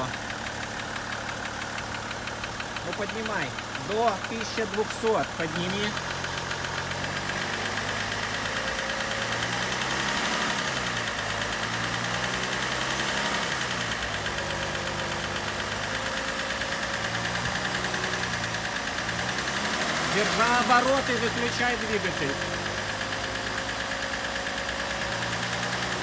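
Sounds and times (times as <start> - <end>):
diesel engine running: 0.0 - 26.0
rhythmic engine knock: 0.0 - 26.0.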